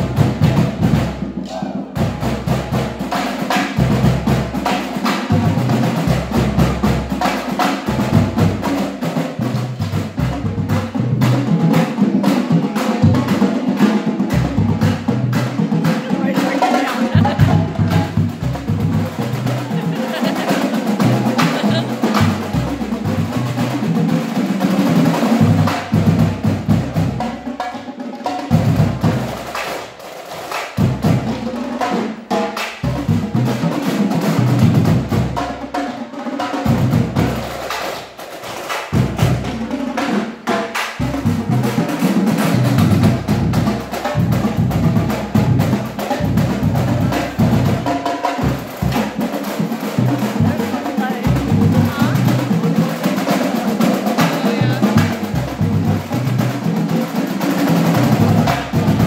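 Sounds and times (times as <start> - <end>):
marching drumline playing: 0.0 - 59.0.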